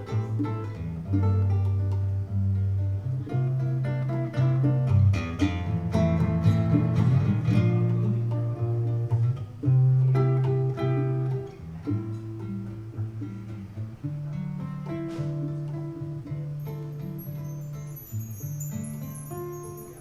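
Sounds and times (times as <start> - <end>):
jazz guitar chords: 0.0 - 20.0.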